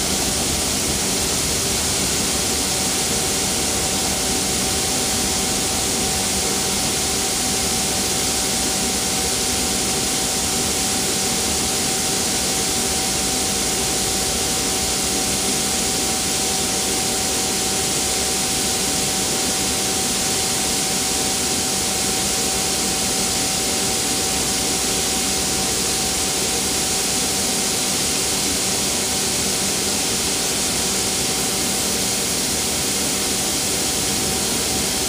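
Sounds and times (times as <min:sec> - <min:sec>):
steady whine: 0:00.0 - 0:35.0.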